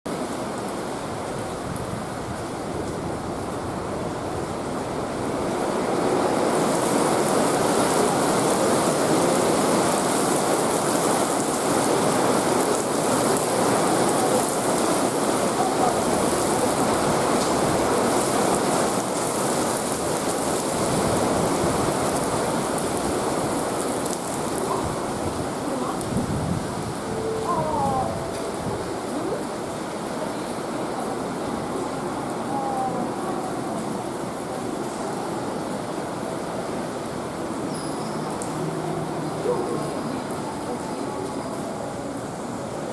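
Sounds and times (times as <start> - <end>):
heavy rain pouring: 0.1 - 42.9.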